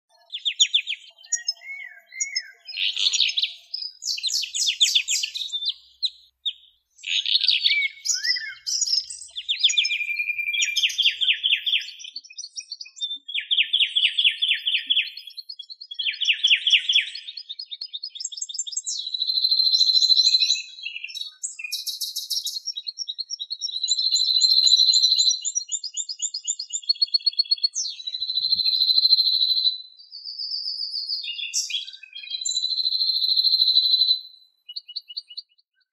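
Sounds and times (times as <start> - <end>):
songbirds chirping and trilling: 0.0 - 35.9.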